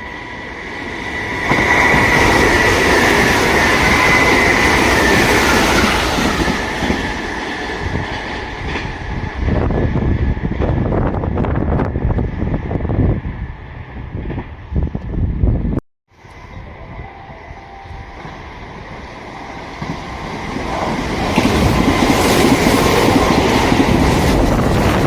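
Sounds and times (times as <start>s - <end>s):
train wheels rushing on rails: 0.0s - 14.8s, 17.6s - 25.0s.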